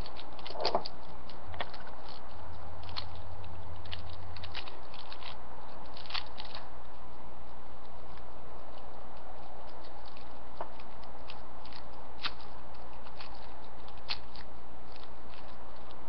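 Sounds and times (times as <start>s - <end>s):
plastic crackling and snapping: 0.0s - 6.7s, 7.9s - 16.0s
steady low hum: 0.0s - 16.0s.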